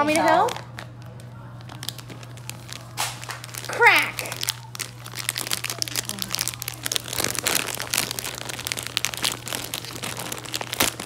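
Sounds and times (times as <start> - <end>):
foil gift wrap crinkling: 0.0 - 11.0
steady low hum: 0.0 - 11.0.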